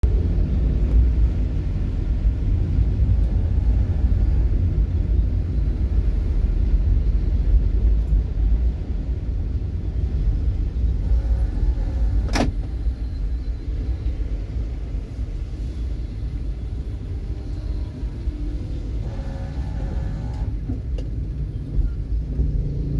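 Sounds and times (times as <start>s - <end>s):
road vehicle rumbling: 0.0s - 22.9s.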